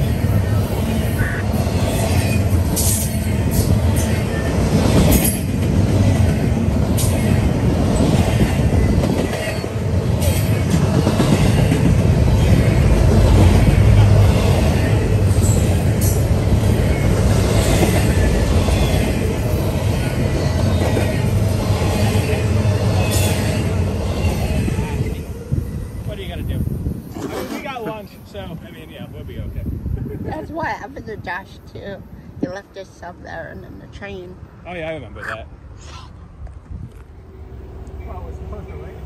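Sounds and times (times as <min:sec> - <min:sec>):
freight train wheels rumbling: 0:00.0 - 0:34.8, 0:36.4 - 0:39.0.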